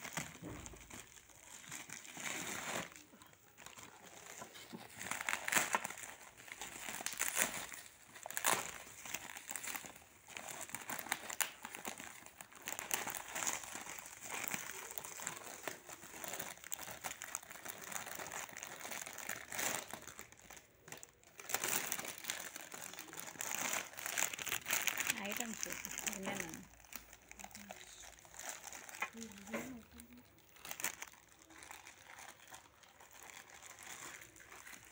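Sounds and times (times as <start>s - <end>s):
bubble wrap and plastic crinkling: 0.0s - 34.9s.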